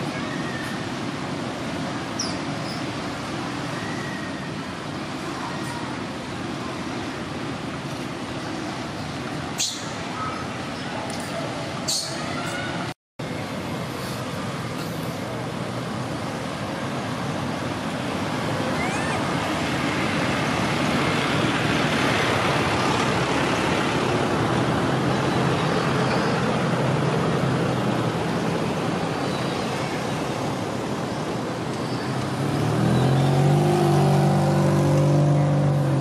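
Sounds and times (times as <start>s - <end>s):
road traffic noise: 0.0s - 36.0s
vehicle engine hum: 0.0s - 36.0s.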